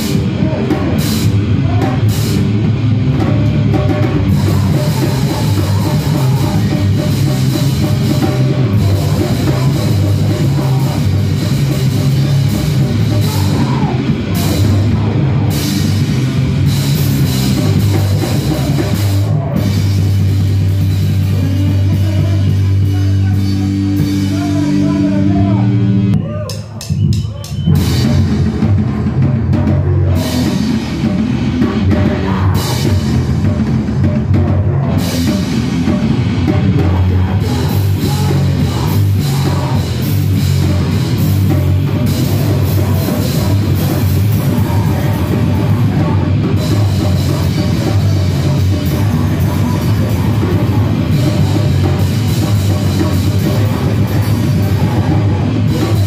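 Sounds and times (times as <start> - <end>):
live band playing heavy music: 0.0 - 56.0.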